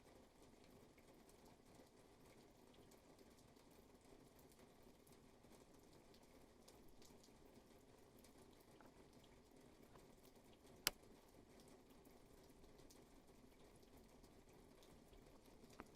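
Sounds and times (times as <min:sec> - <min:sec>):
faint rainfall: 0:00.0 - 0:15.9.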